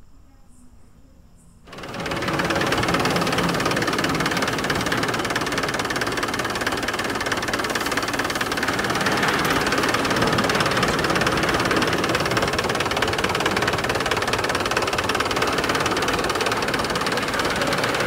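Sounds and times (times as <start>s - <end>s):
tractor engine running: 1.7s - 18.0s.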